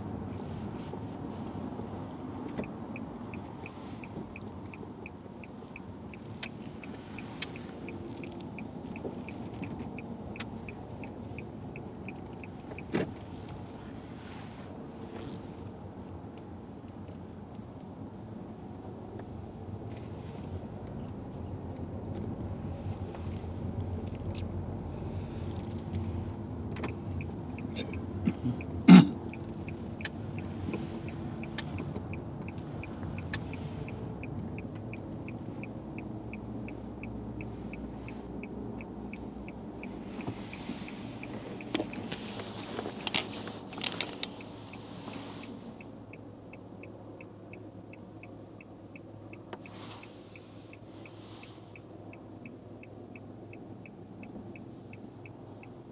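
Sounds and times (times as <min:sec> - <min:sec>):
car engine and tyre noise: 0:00.0 - 0:55.9
turn signal ticking: 0:00.0 - 0:55.9.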